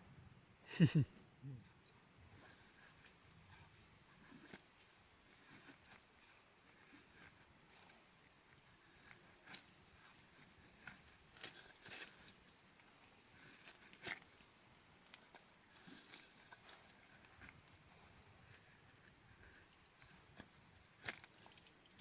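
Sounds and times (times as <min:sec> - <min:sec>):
faint rustles and clicks: 0:01.6 - 0:22.0.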